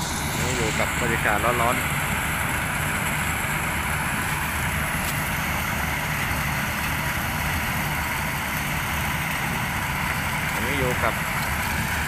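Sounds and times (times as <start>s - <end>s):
combine harvester engine hum: 0.0s - 12.0s.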